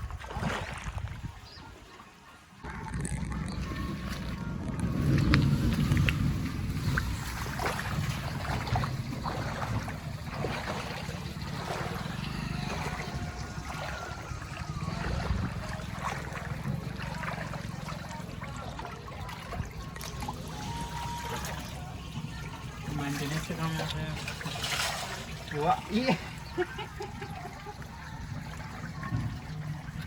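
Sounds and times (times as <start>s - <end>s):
water splashing and trickling: 0.0s - 30.0s
engine humming: 2.6s - 30.0s.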